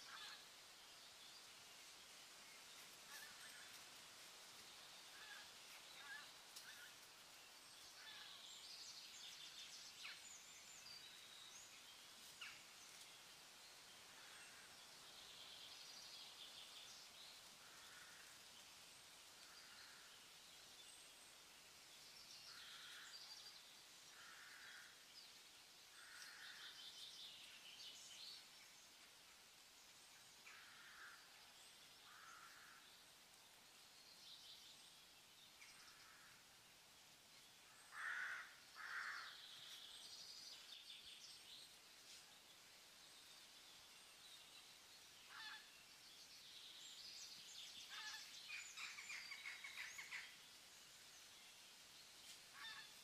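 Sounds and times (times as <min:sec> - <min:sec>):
faint birds chirping: 0:00.0 - 0:53.0
low steady hiss: 0:00.0 - 0:53.0.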